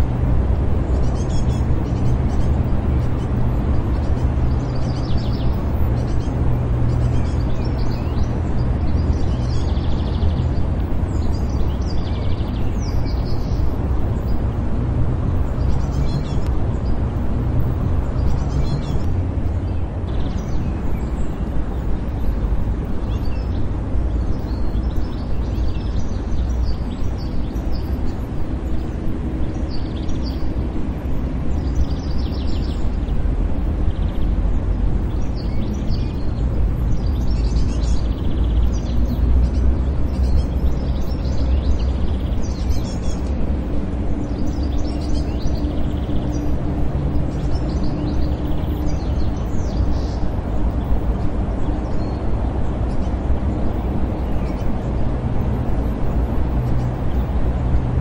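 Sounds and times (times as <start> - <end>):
small birds chirping: 0.0 - 57.9
distant traffic rumble: 0.0 - 58.0.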